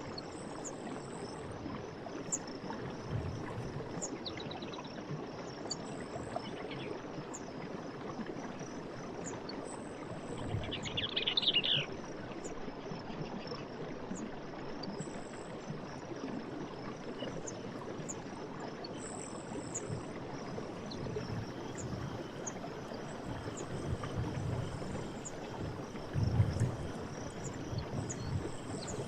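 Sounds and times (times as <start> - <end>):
insects trilling and ticking: 0.0 - 29.0.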